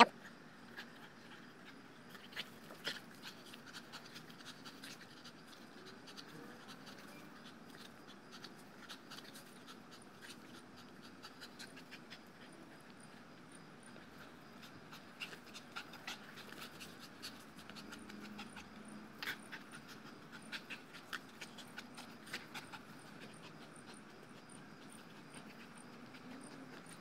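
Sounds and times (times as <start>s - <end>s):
dog panting: 0.0s - 27.0s.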